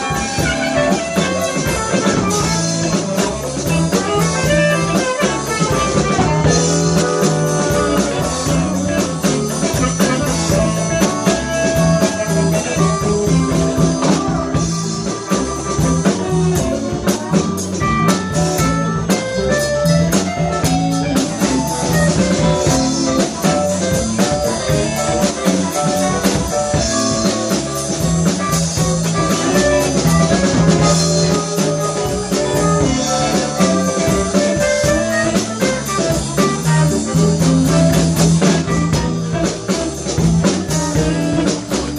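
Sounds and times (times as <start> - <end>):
live blues band playing: 0.0 - 41.9.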